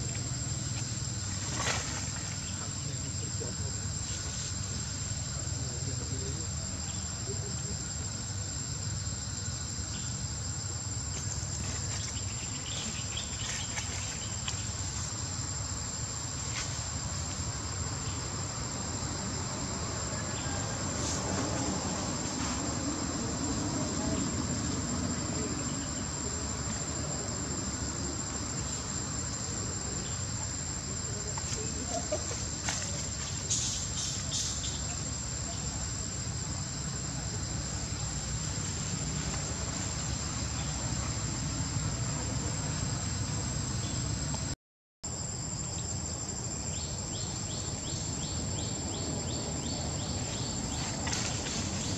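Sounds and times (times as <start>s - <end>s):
insects chirring: 0.0s - 51.9s.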